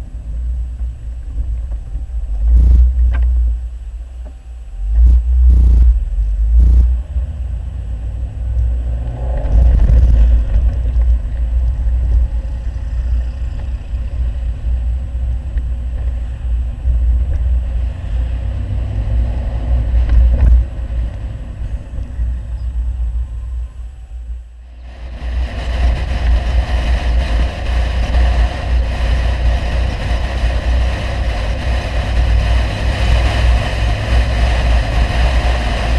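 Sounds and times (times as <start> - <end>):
car engine deep rumble: 0.0 - 35.9.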